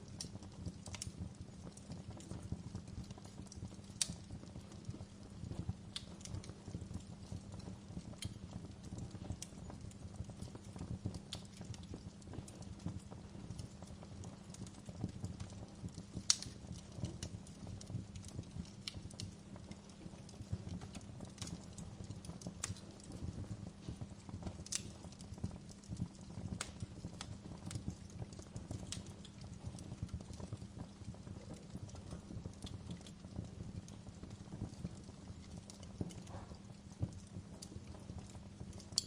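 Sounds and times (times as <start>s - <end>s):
low rumble of flames: 0.0s - 39.0s
wood fire crackling and popping: 0.0s - 39.0s.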